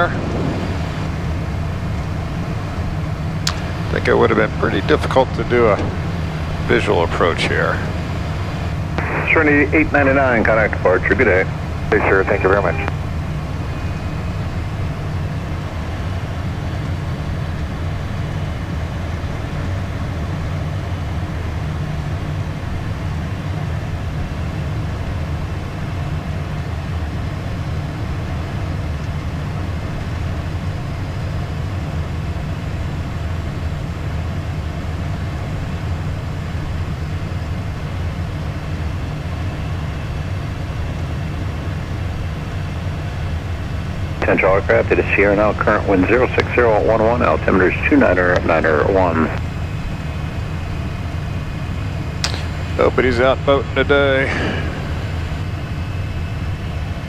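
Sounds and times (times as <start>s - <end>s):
jet cockpit rumble: 0.0s - 57.0s.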